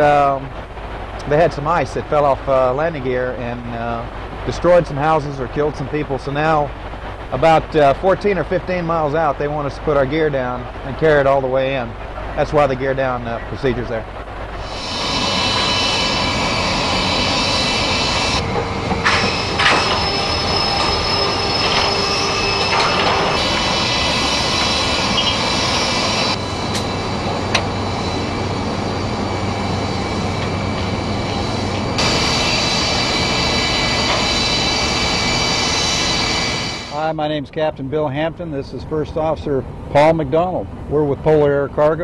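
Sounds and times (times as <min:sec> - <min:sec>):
jet turbine whine: 0:00.0 - 0:42.0
machinery hum: 0:00.0 - 0:42.0.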